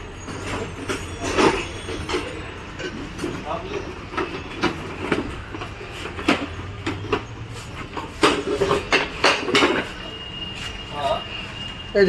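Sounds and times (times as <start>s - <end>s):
knocks and clatters: 0.0s - 10.3s.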